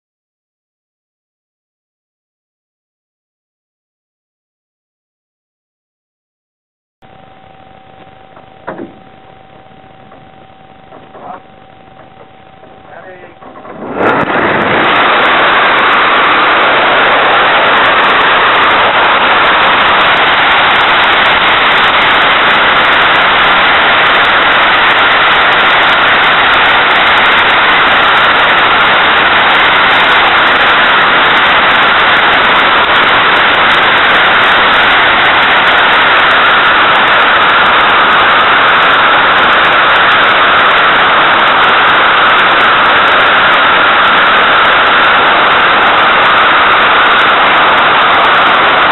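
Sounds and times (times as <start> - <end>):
wind noise on microphone: 7.1 - 48.9.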